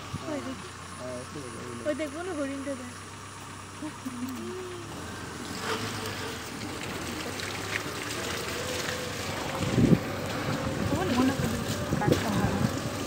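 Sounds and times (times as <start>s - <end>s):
tyres through mud and water: 0.0s - 13.0s
vehicle engine running: 0.0s - 13.0s.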